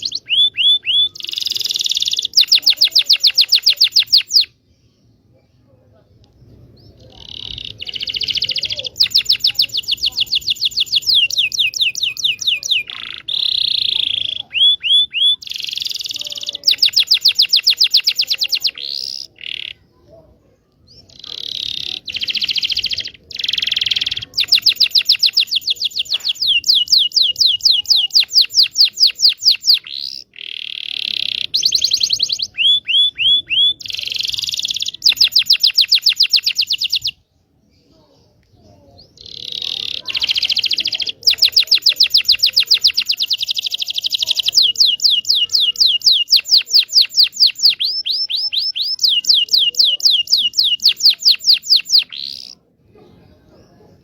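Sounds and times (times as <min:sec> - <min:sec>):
canary singing trills and chirps: 0:00.0 - 0:05.4, 0:06.4 - 0:54.0.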